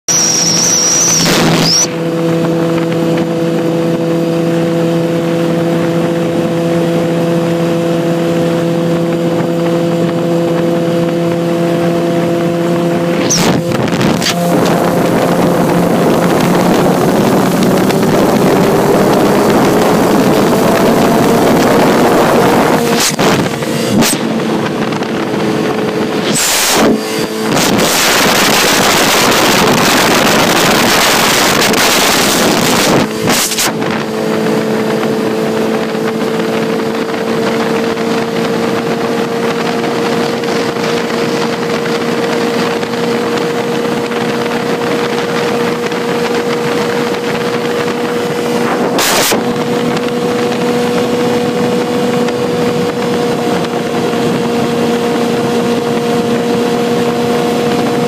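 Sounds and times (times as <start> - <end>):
motorcycle engine cruising: 0.0 - 58.0
wind rushing over microphone: 0.1 - 58.0.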